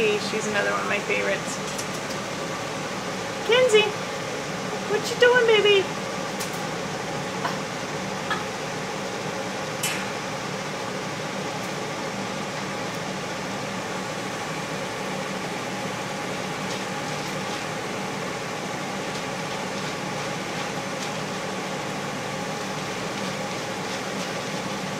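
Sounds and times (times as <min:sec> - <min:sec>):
air conditioner humming: 0:00.0 - 0:24.9.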